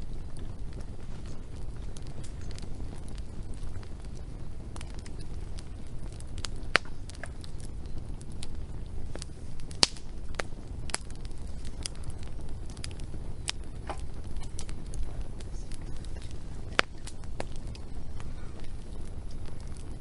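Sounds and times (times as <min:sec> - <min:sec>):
low rumble: 0:00.0 - 0:20.0
wood fire crackling and popping: 0:00.0 - 0:20.0.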